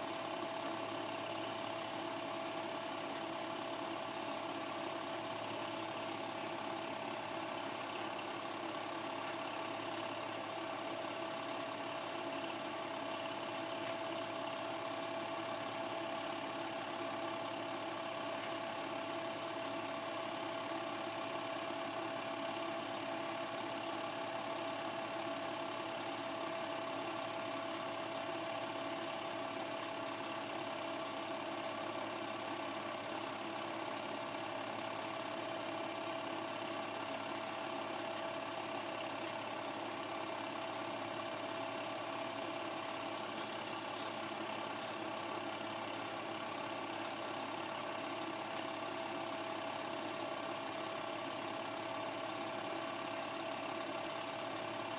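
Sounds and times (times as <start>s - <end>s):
film projector clattering: 0.0s - 54.9s.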